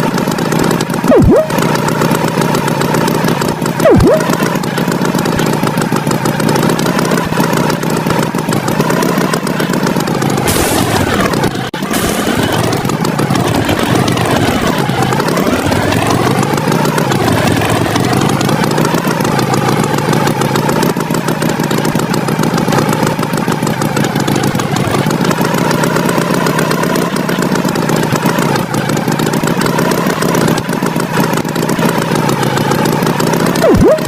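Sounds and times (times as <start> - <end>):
cartoon tractor engine buzzing: 0.0 - 34.0.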